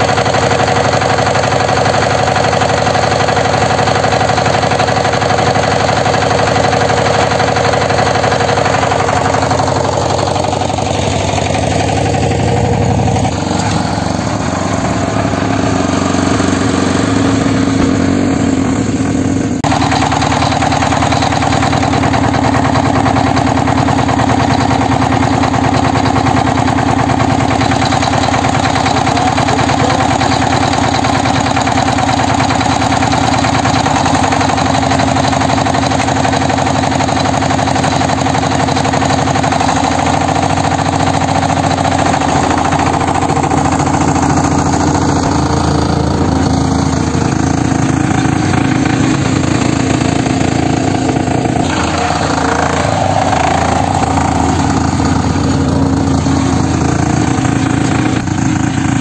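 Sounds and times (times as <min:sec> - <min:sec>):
power tiller diesel engine running: 0:00.0 - 0:59.0.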